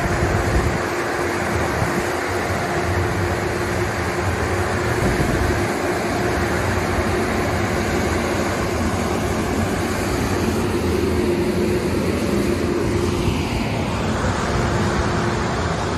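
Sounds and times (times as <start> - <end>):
blower dryers rushing air: 0.0 - 15.9
steady hum: 0.0 - 15.9.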